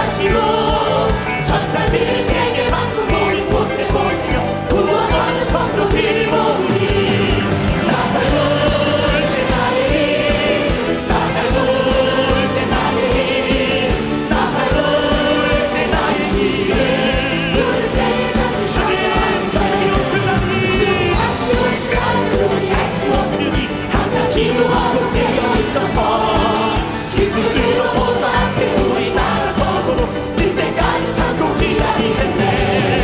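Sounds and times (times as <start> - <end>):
band accompaniment: 0.0 - 33.0
group of voices singing: 0.0 - 33.0
steady drum beat: 0.0 - 33.0.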